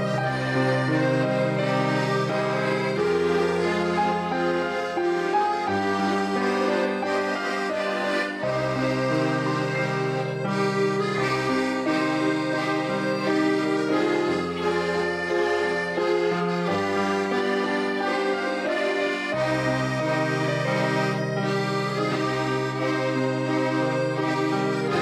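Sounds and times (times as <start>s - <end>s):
held accordion chords: 0.0s - 25.0s
orchestra playing: 0.0s - 25.0s.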